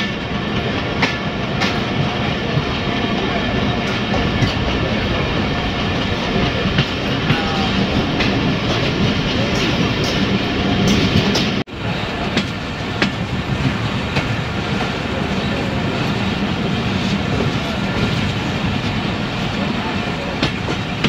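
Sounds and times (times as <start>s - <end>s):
train rumbling along track: 0.0s - 21.0s.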